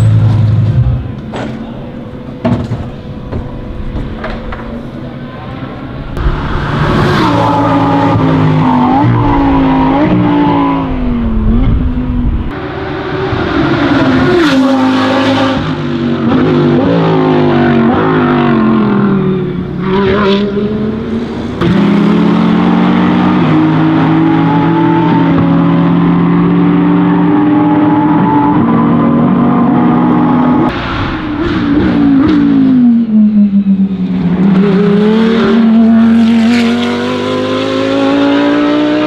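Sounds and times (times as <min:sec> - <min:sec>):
race car engine at high revs: 0:03.2 - 0:39.0.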